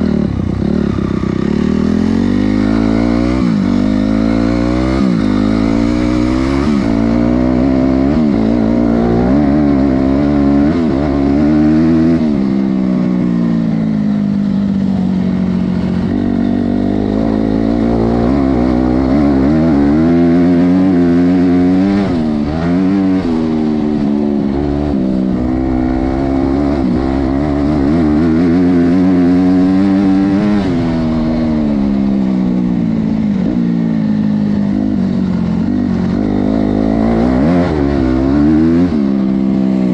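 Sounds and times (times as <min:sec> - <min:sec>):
dirt bike engine revving: 0:00.0 - 0:13.7, 0:15.4 - 0:39.9.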